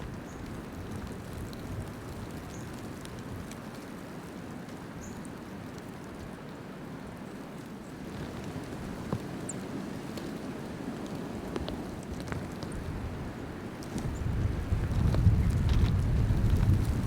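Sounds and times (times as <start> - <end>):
blizzard wind: 0.0 - 17.0
falling precipitation: 0.0 - 17.0.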